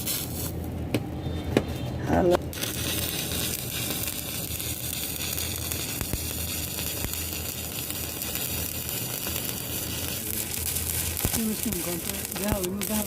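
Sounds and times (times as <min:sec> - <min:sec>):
welding arc crackling: 0:00.0 - 0:00.8, 0:02.4 - 0:13.0.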